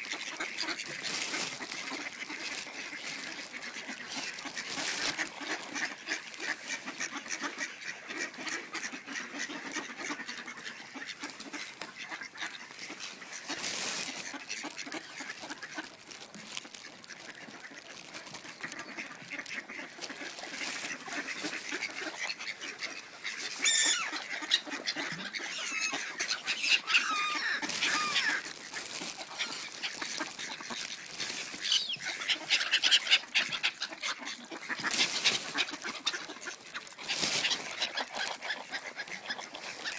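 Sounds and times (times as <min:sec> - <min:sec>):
mallard ducks quacking: 0:00.0 - 0:39.9.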